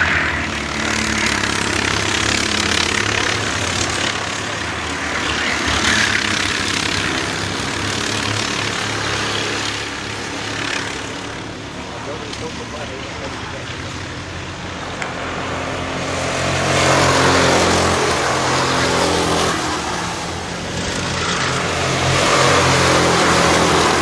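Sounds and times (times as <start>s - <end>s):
go-kart engines passing: 0.0s - 24.0s.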